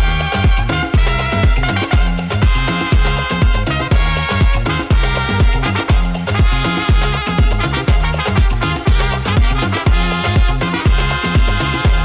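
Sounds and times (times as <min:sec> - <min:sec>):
house music: 0:00.0 - 0:12.0.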